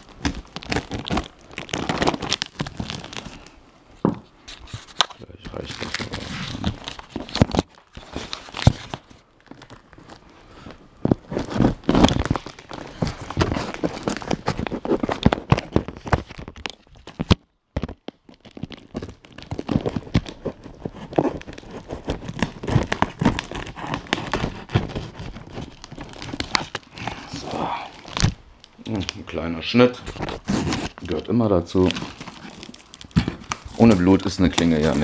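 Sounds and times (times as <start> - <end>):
packing tape ripping: 0.0 - 3.6, 4.5 - 10.2, 11.1 - 35.0
cardboard and plastic rustling: 0.0 - 35.0.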